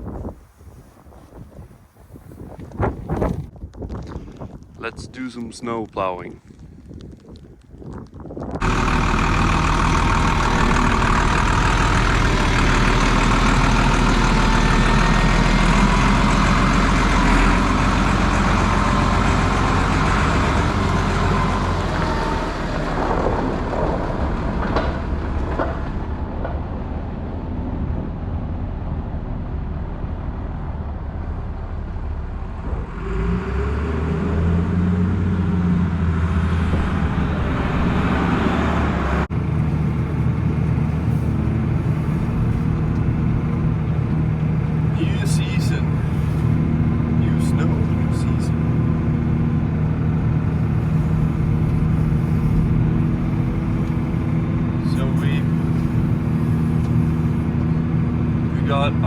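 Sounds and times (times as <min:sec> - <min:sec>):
wheel loader diesel engine running: 0:08.6 - 0:59.0.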